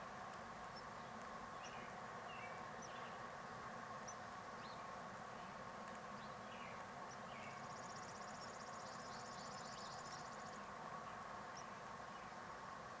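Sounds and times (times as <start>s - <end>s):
steady hiss and hum: 0.0s - 13.0s
faint bird chirps: 0.7s - 3.3s, 4.0s - 12.5s.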